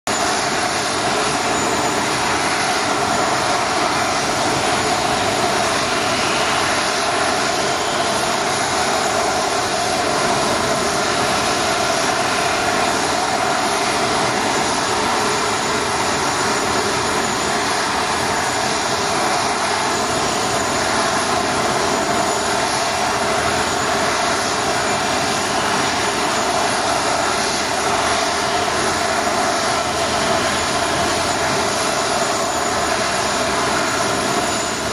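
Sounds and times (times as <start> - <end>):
distant jet engines running: 0.1 - 34.9.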